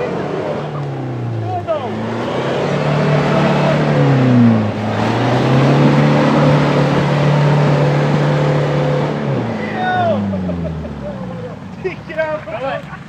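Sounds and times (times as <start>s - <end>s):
suv engine revving hard: 0.0s - 13.0s
wheels churning through mud: 0.0s - 13.0s.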